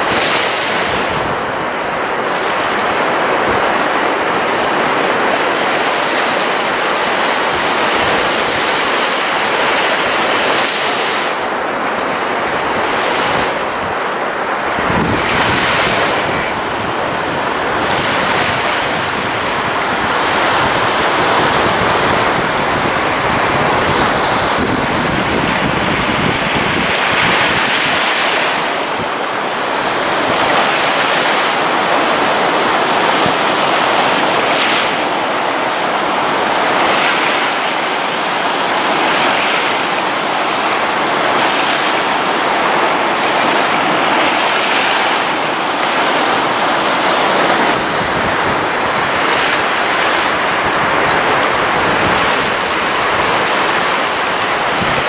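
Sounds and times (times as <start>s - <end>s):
waves breaking on a beach: 0.0s - 55.0s
wind rumbling on microphone: 0.0s - 55.0s.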